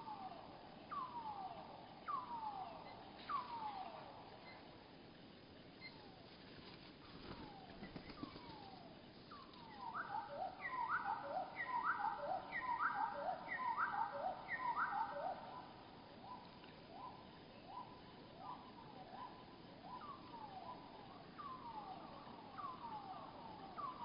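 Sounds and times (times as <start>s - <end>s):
slowed bird calls: 0.0s - 24.0s.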